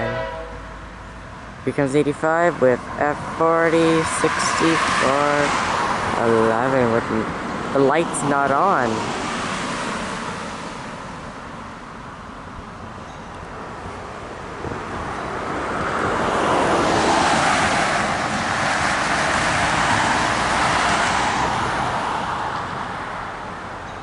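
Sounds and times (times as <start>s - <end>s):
passenger train passing: 0.0s - 24.0s.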